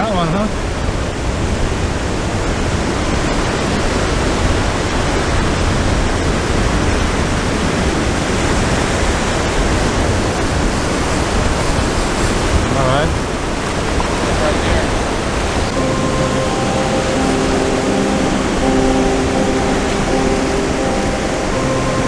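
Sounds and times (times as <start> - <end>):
breaking surf: 0.0 - 22.0
wind buffeting microphone: 0.5 - 22.0.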